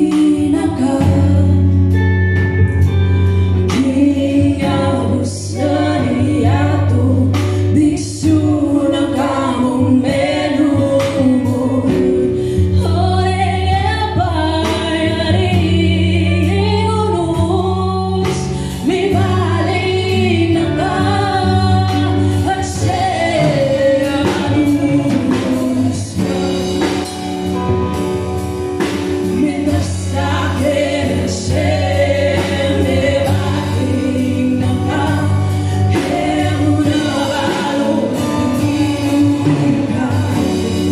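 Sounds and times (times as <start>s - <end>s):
singers: 0.0s - 2.0s, 3.6s - 27.7s, 28.8s - 40.9s
steady drum beat: 0.0s - 16.7s, 17.3s - 40.9s
bass guitar: 0.0s - 40.9s
electric and acoustic guitars: 0.0s - 40.9s
keyboard: 0.0s - 40.9s.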